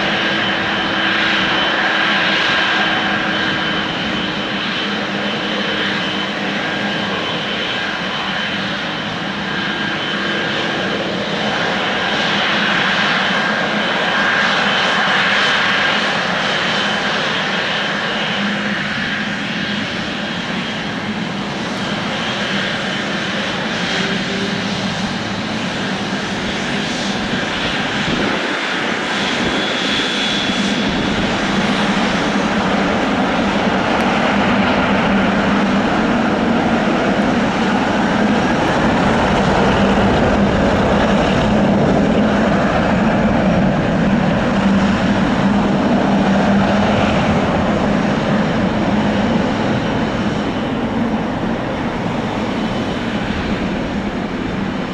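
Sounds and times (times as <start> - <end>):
jet engines with high whine: 0.0 - 54.9.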